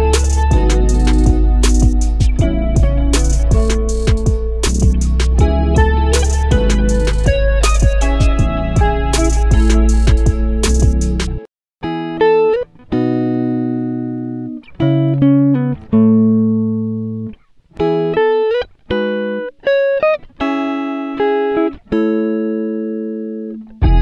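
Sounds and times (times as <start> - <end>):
plucked guitar melody: 0.0 - 24.0.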